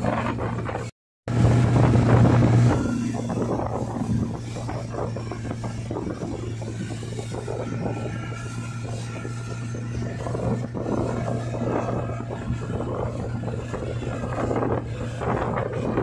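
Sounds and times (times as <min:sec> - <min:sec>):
outboard motor humming: 0:00.0 - 0:16.0
wake splashing: 0:00.0 - 0:16.0
wind on microphone: 0:00.0 - 0:16.0.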